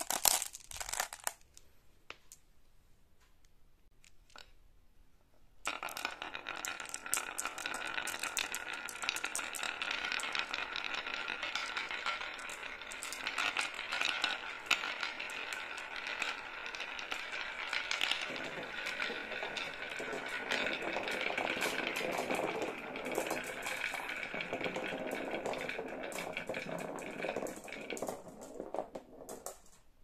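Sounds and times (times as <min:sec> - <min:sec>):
marbles clattering down wooden track: 0:00.0 - 0:01.4, 0:05.6 - 0:30.0.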